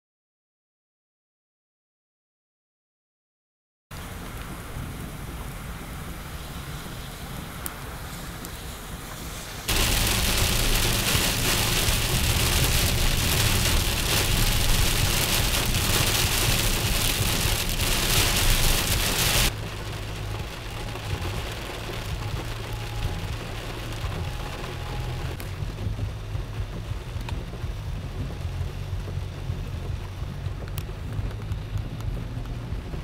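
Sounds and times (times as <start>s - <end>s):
low road rumble: 3.9s - 33.0s
heavy rain on car windshield: 4.0s - 33.0s.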